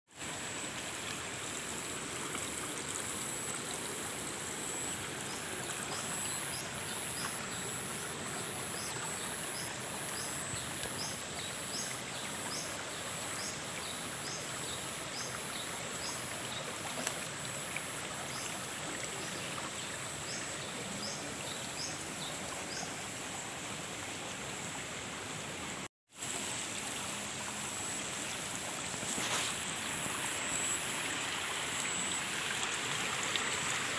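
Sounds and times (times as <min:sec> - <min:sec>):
water rushing and gurgling: 0:00.1 - 0:33.9.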